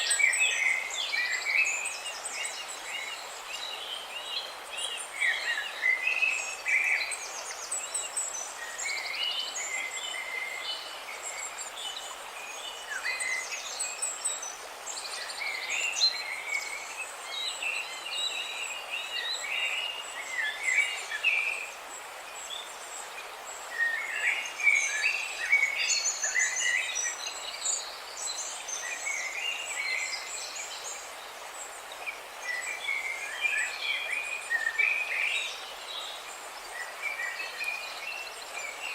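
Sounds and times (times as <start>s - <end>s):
background hiss: 0.0s - 38.9s
songbirds chirping and trilling: 0.0s - 38.9s.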